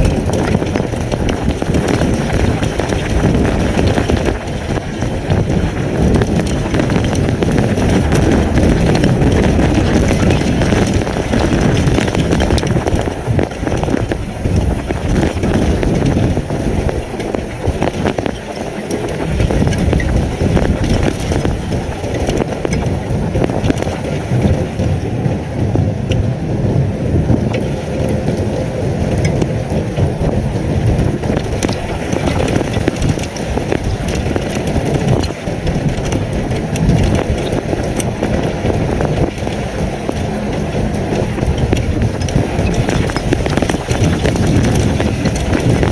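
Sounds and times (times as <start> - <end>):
hail and rain striking camera: 0.0 - 45.9
wind buffeting microphone: 0.0 - 45.9.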